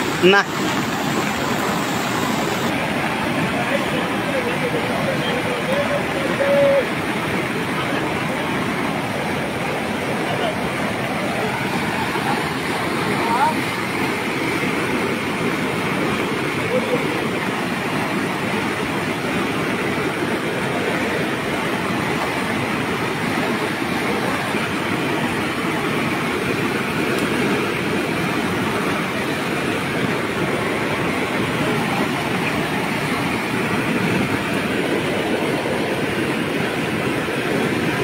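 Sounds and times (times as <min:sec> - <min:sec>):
rushing floodwater: 0:00.0 - 0:38.0.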